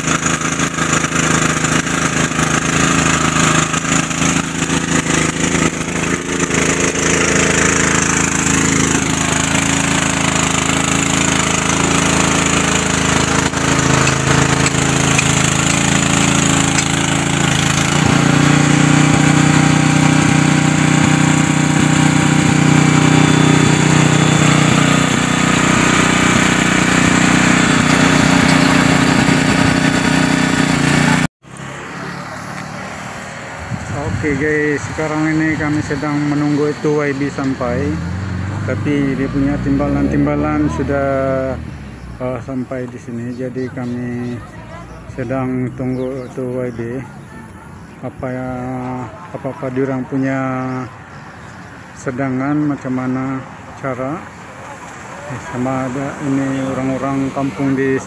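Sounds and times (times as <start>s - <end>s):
generator engine running: 0.0s - 58.0s.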